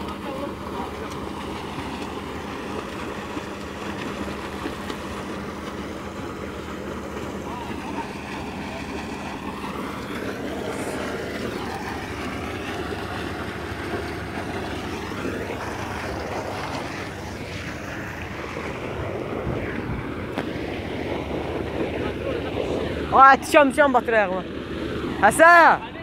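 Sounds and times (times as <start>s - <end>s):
water gushing from a pipe: 0.0s - 25.8s.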